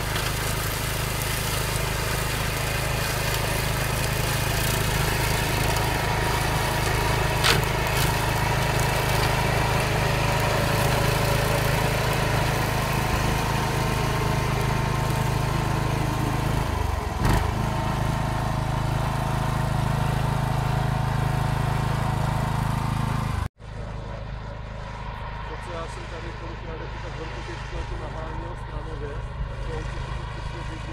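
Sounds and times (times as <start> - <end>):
tractor engine running under load: 0.0 - 26.6
mower cutting dry grass: 0.0 - 30.9.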